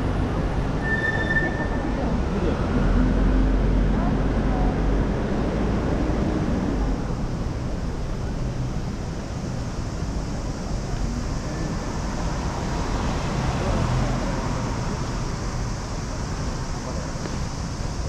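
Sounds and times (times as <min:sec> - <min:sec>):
city street rumble: 0:00.0 - 0:18.0.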